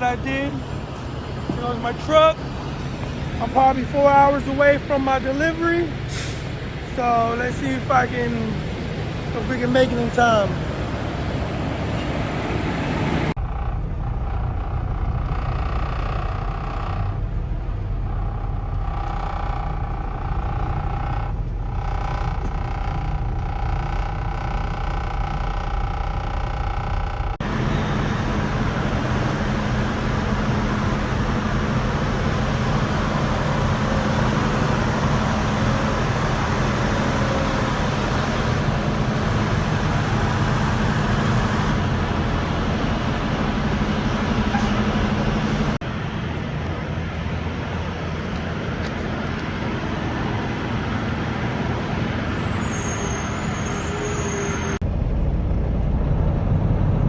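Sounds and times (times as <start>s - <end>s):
road noise: 0.0s - 57.0s
truck engine: 0.0s - 57.0s.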